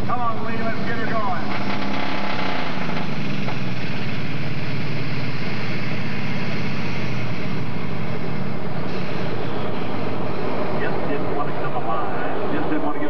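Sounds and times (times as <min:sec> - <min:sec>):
pulling tractor engine running loud: 0:00.0 - 0:13.0.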